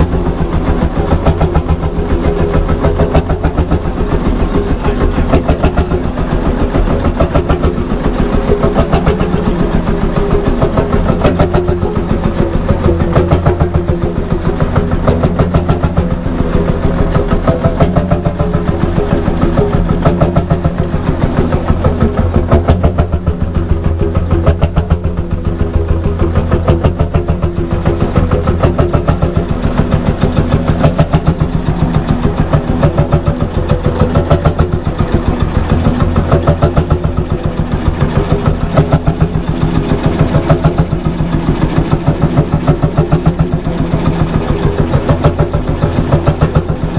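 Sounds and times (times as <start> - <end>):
tractor engine running steadily: 0.0 - 46.9.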